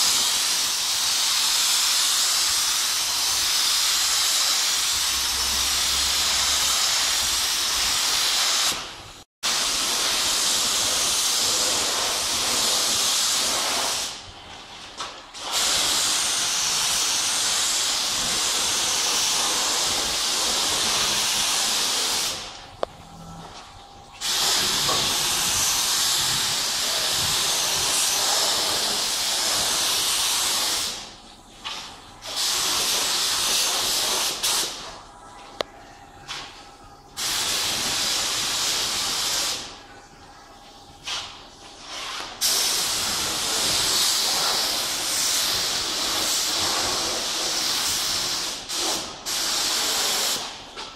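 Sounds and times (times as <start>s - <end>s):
spray gun hissing: 0.0s - 14.2s, 15.4s - 22.5s, 24.2s - 31.1s, 32.2s - 34.8s, 37.2s - 39.8s, 41.0s - 50.6s.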